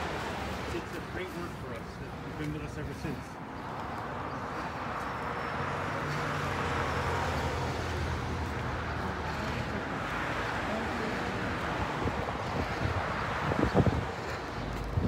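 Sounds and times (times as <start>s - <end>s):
passing cars: 0.0s - 15.0s
vehicle engine hum: 0.0s - 15.0s.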